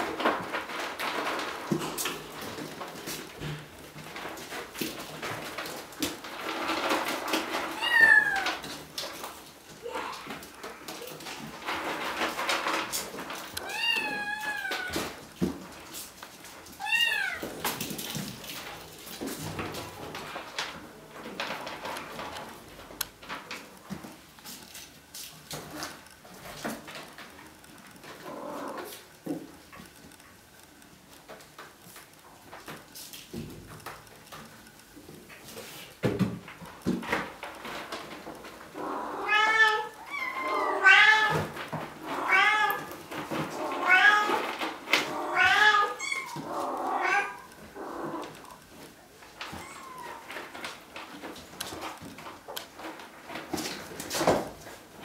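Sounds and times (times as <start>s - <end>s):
kittens scratching and clawing: 0.0s - 55.0s.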